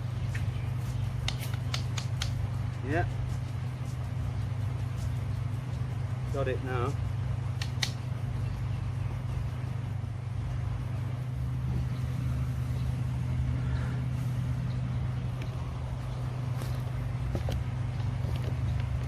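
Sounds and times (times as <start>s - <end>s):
machine engine humming: 0.0s - 19.0s.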